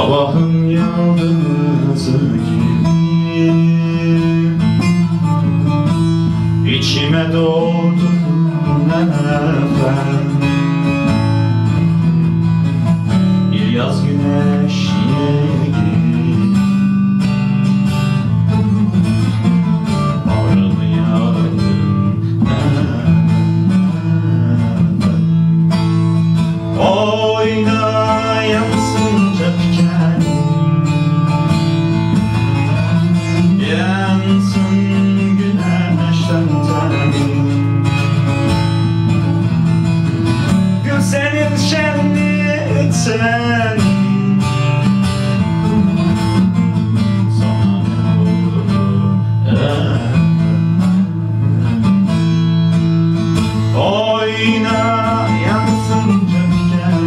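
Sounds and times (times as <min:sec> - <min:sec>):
man singing: 0:00.0 - 0:17.5, 0:18.3 - 0:38.4, 0:40.4 - 0:52.4, 0:53.4 - 0:57.0
long-necked lute strummed rapidly: 0:00.0 - 0:57.0.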